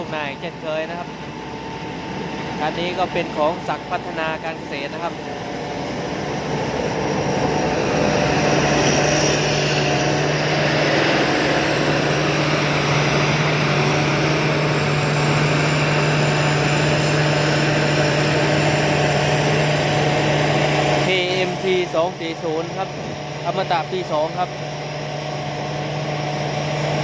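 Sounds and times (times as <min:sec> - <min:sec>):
combine harvester droning: 0:00.0 - 0:27.0.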